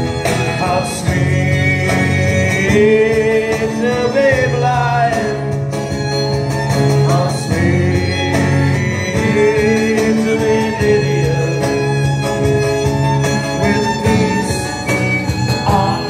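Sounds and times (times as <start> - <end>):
fiddle lead melody: 0.0 - 16.0
folk-rock band playing: 0.0 - 16.0.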